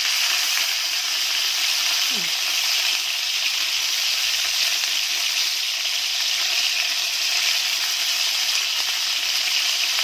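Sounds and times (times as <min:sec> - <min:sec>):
meatballs sizzling in hot oil: 0:00.0 - 0:10.0.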